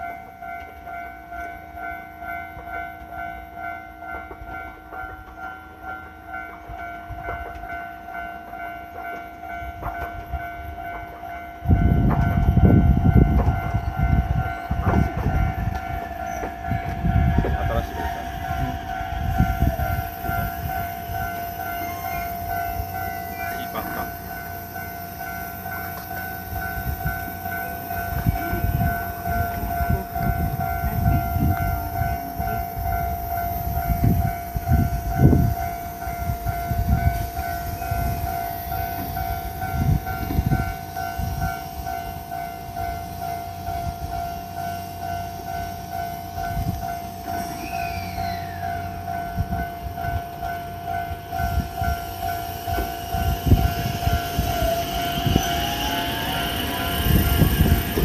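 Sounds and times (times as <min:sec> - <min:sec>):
level crossing warning bell: 0:00.0 - 0:47.6, 0:48.4 - 0:58.0
low train rumbling: 0:00.0 - 0:58.0.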